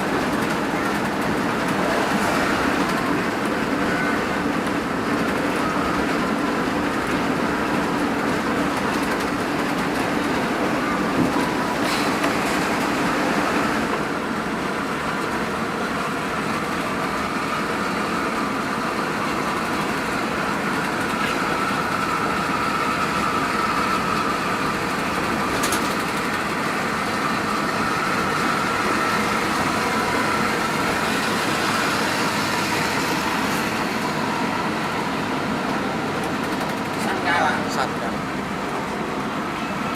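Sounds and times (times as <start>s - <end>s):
coach engine and road noise: 0.0s - 39.9s.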